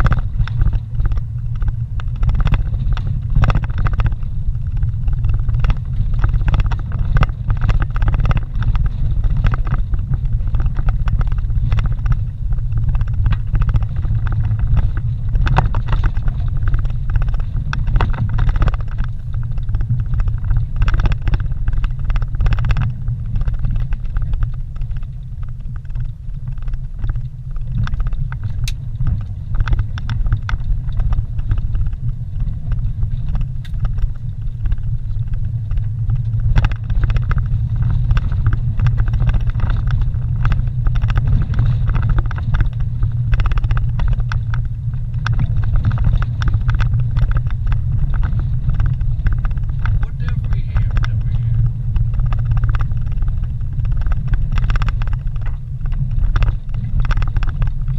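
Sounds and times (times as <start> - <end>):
engine and tyres rumbling: 0.0 - 57.9
vehicle rattles and knocks: 0.0 - 57.9.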